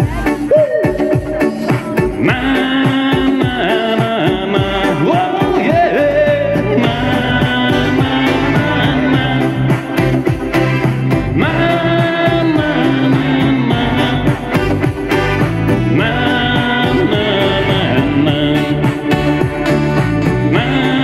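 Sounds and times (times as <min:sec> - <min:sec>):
pop song playing: 0:00.0 - 0:21.0.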